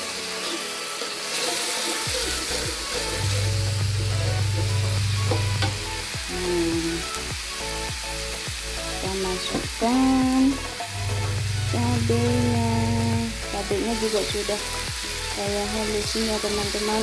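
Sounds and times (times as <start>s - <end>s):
paste sizzling in hot oil: 0.0s - 17.0s.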